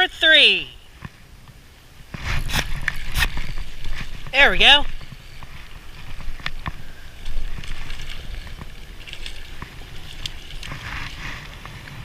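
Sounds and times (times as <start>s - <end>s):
wind rumble on microphone: 1.0s - 12.0s.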